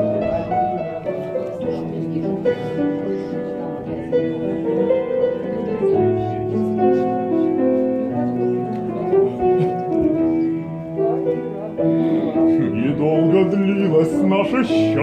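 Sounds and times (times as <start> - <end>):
piano-led instrumental music: 0.0 - 15.0.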